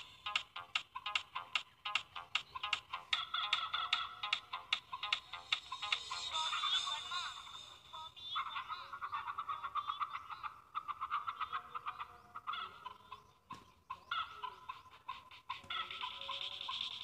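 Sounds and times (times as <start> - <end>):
chickens calling: 0.9 - 17.0.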